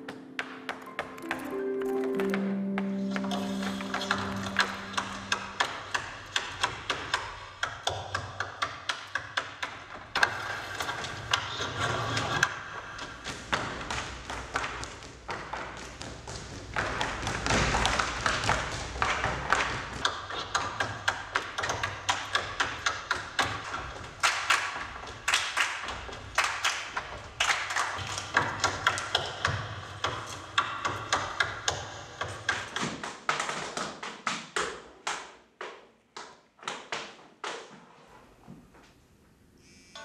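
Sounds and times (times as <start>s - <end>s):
tap shoes striking floor: 0.0s - 10.4s, 13.0s - 37.9s.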